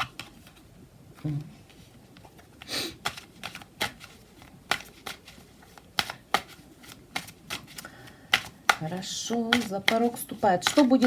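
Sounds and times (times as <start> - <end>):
cards clicking and tapping: 0.0 - 0.6, 2.1 - 11.0.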